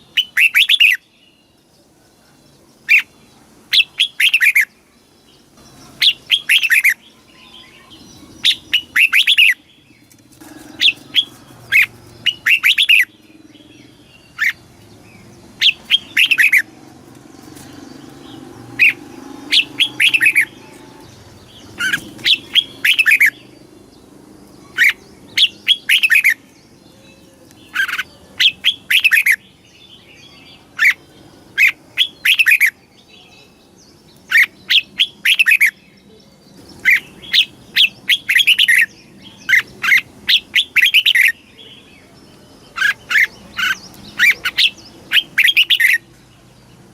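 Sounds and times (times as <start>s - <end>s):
bird singing whistled notes: 0.0s - 1.6s, 2.8s - 10.1s, 10.7s - 16.7s, 17.7s - 23.6s, 24.6s - 46.1s.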